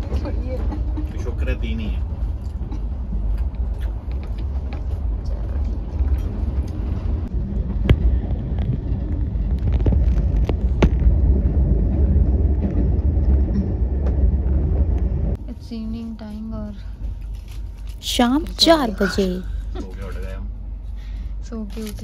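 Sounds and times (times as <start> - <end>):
train coach rumbling: 0.0 - 22.0.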